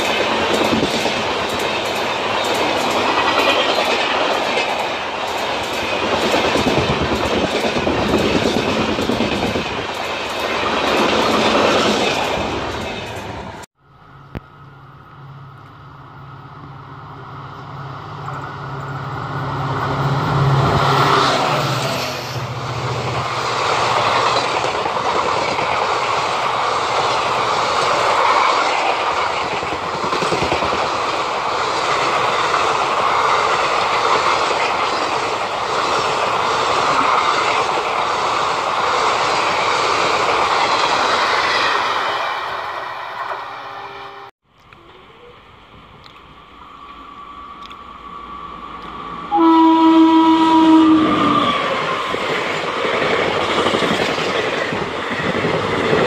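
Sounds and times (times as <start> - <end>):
coaches rumbling over rails: 0.0 - 56.0
train passing low hum: 0.0 - 56.0.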